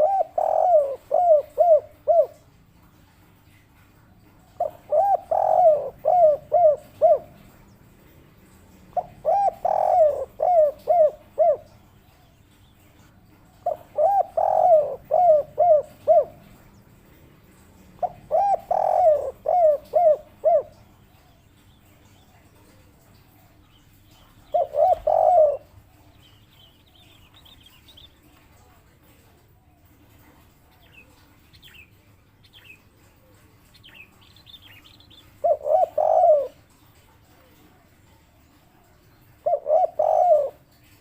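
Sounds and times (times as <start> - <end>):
dove cooing: 0.0 - 32.0, 32.6 - 41.0.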